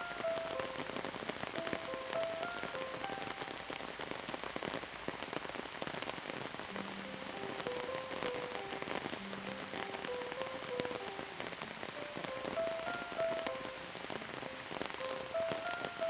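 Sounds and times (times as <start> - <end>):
slow soft melody: 0.0 - 4.0, 6.6 - 16.0
rain drops striking a surface: 0.0 - 16.0.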